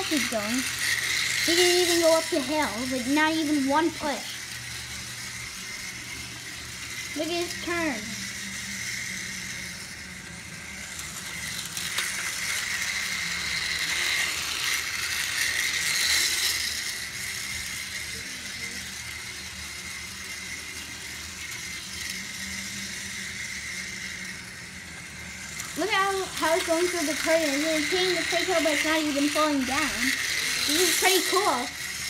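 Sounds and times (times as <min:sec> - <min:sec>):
toy train motor whine: 0:00.0 - 0:32.0
toy train wheels rattling on track: 0:00.0 - 0:32.0.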